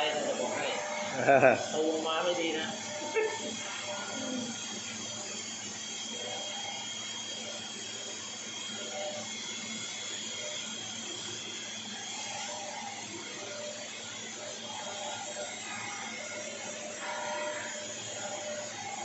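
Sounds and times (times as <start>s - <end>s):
machine spindle whine: 0.0s - 19.0s
machining and coolant hiss: 0.0s - 19.0s.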